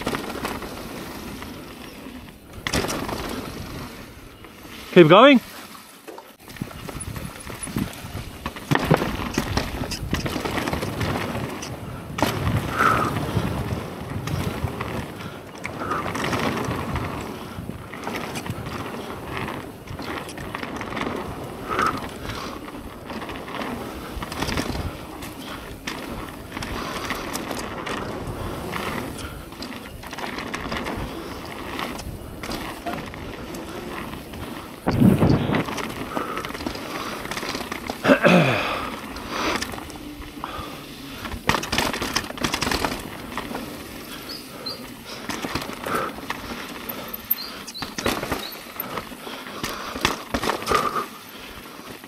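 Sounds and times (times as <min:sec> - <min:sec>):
bike rattling over bumps: 0:00.0 - 0:52.0
bike tyres rolling on dirt: 0:00.0 - 0:52.0.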